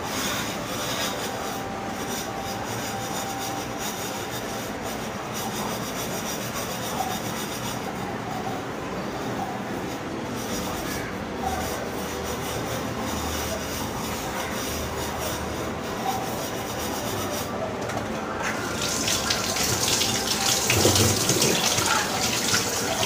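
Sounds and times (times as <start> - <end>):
scrubbing clay bottle: 0.2 - 8.6, 9.8 - 23.0.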